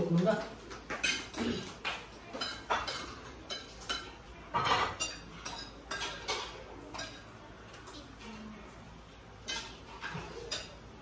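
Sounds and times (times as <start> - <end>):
cutlery clatter: 0.2 - 8.4, 9.4 - 11.0
cutlery clinking on plates: 0.3 - 8.3, 9.4 - 11.0.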